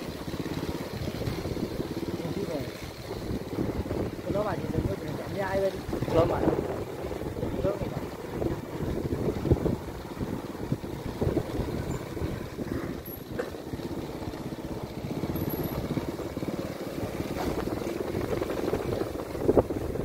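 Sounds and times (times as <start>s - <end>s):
motorbike engine running: 0.0s - 20.0s
wind buffeting microphone: 0.0s - 20.0s.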